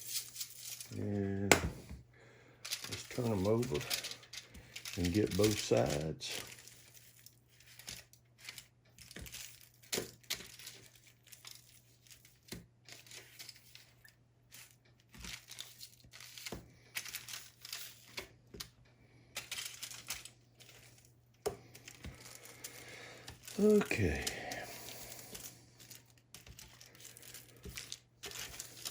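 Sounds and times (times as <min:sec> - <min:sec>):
crinkling and rustling: 0:00.0 - 0:28.9.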